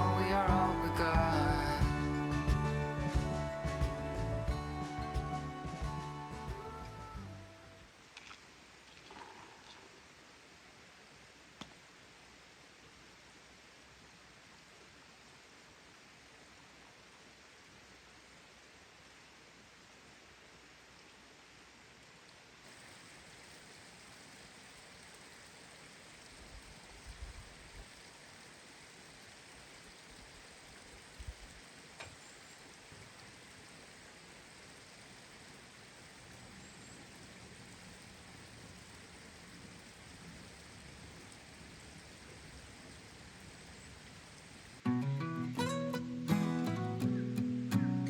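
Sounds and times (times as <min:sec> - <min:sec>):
faint rain-like hiss: 0:00.0 - 0:48.0.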